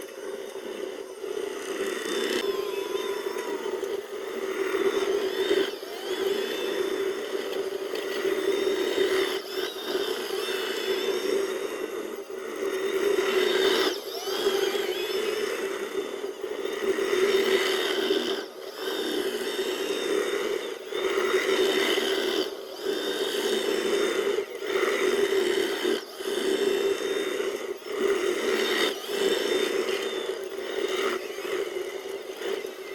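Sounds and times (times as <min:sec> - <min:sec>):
bulldozer engine drone: 0:00.0 - 0:32.9.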